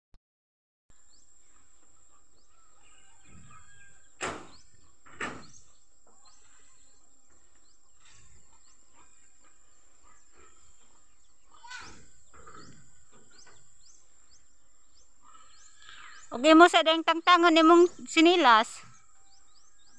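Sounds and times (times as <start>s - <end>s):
birds chirping: 0.9s - 19.9s.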